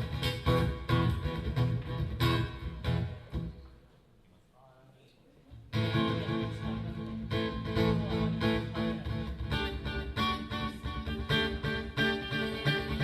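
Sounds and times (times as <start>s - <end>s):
guitar strumming chords: 0.0s - 3.6s, 5.7s - 13.0s.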